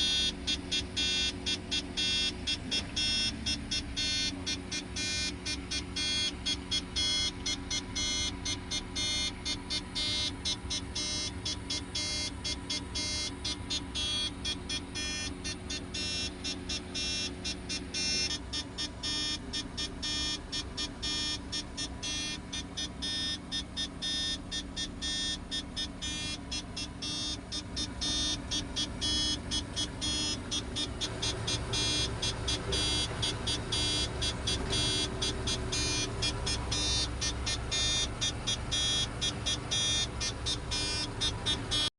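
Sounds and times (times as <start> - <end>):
crane engine running: 0.0 - 41.9
rapid high-pitched pulsing: 4.0 - 41.9.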